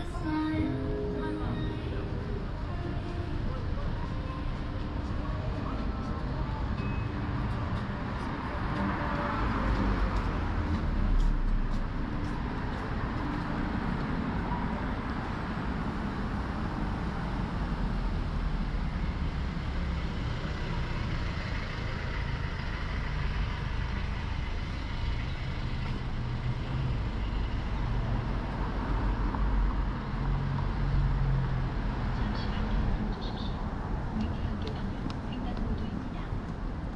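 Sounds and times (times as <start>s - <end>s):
vehicle engines rumbling: 0.0s - 36.9s.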